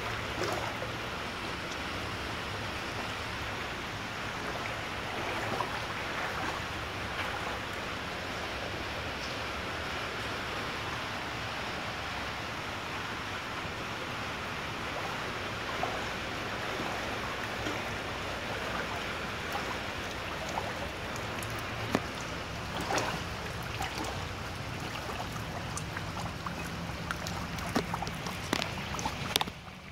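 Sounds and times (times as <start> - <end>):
wading through floodwater: 0.0 - 29.9.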